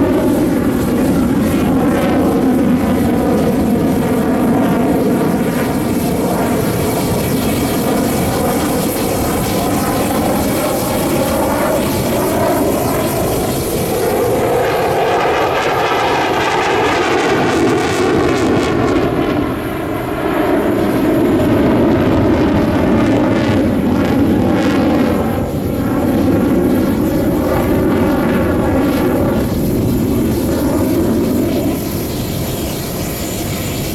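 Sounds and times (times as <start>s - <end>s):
fighter jets roaring: 4.9s - 33.9s.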